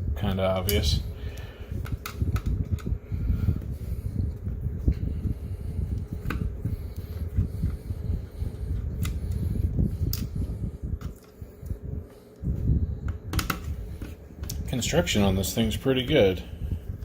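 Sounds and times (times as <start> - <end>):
fan-like rumble: 0.0 - 17.0.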